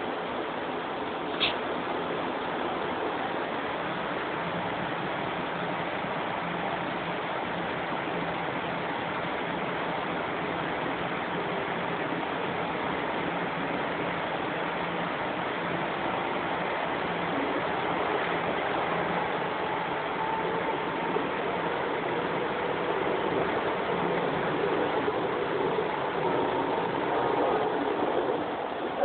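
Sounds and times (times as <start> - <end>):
faint whine: 0.0 - 29.0
subway car rushing noise: 0.0 - 29.0.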